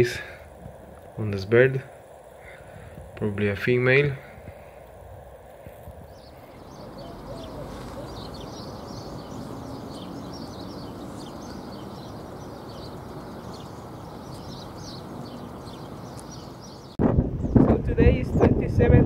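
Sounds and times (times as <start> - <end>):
small birds chirping and twittering: 0.0 - 18.6
low countryside rumble: 0.0 - 18.7.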